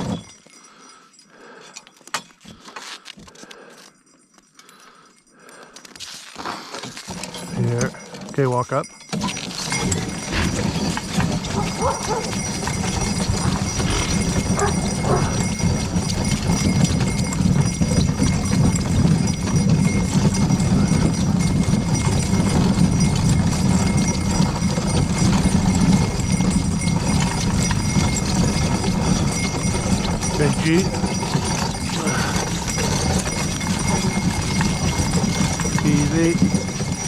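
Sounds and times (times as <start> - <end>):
hoofbeats on packed snow: 0.0 - 37.0.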